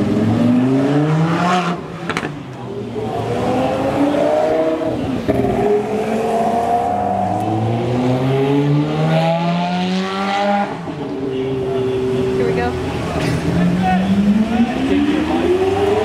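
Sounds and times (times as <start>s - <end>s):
sports car accelerating past: 0.0s - 16.0s.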